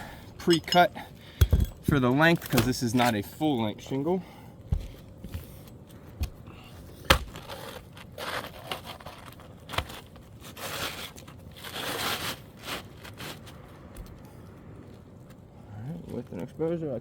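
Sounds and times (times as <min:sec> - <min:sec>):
roofing shingle scraping and rustling: 0:01.2 - 0:03.6, 0:04.8 - 0:16.6.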